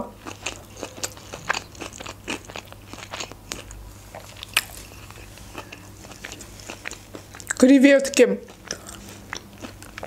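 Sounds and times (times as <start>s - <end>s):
person chewing: 0.0s - 7.6s, 8.4s - 10.0s.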